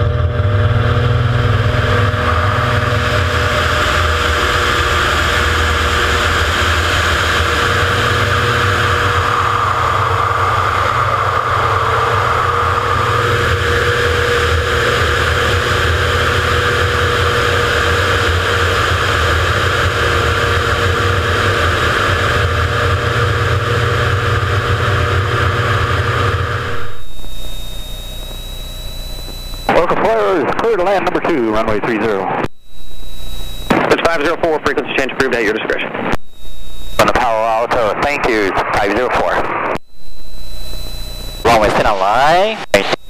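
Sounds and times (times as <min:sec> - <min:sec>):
thin high whine: 0:00.0 - 0:18.8, 0:22.2 - 0:43.0
cockpit hum: 0:00.0 - 0:43.0
propeller plane engine drone: 0:00.0 - 0:43.0.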